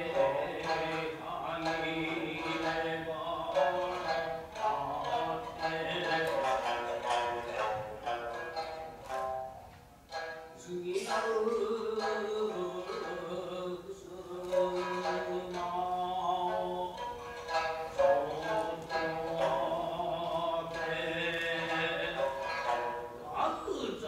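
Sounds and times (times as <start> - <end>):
shamisen plucks: 0.0 - 24.0.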